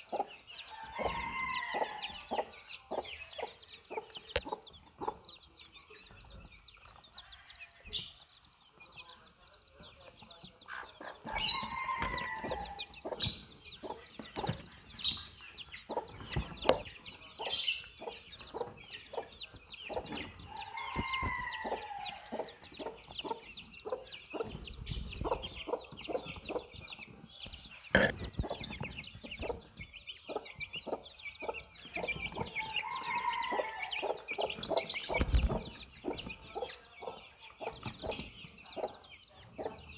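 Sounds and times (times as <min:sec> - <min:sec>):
baby chicks peeping: 0:00.0 - 0:39.9
chickens clucking: 0:00.0 - 0:39.9.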